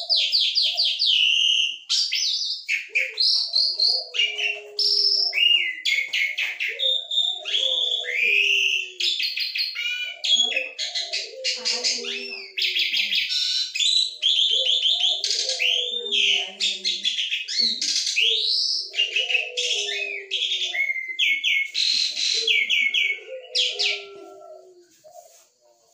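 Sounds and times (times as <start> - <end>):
starling singing trills and whistles: 0.0 - 24.2.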